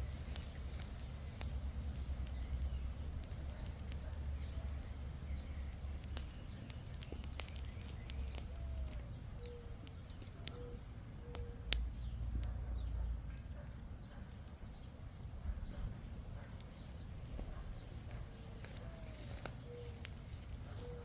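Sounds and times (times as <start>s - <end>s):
campfire crackling: 0.0s - 12.6s, 14.2s - 21.0s.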